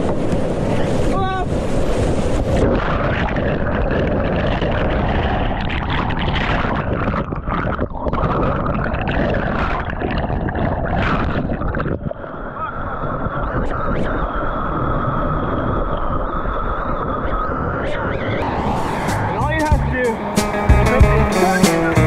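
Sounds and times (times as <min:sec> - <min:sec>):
muffled underwater rushing and gurgling: 0:00.0 - 0:19.6.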